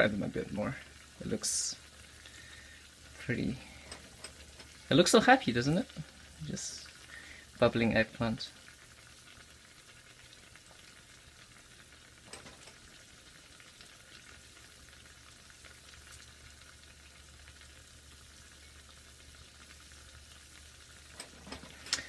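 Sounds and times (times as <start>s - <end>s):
faint sizzle of frying: 0.0s - 22.0s.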